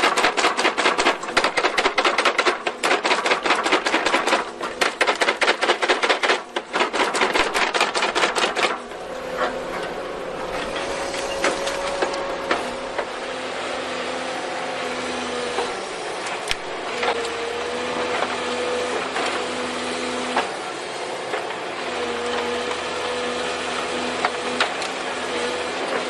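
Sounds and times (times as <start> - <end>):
excavator running with whine: 0.0 - 26.0.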